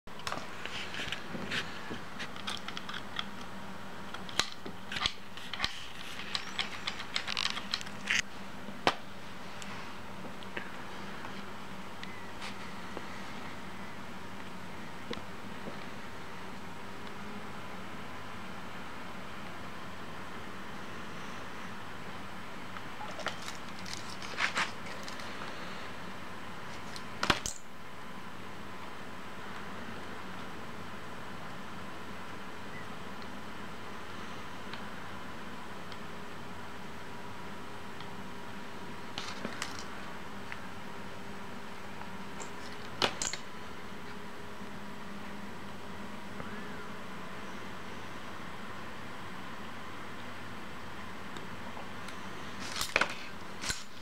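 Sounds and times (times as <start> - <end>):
faint steady hum: 0.1 - 54.0.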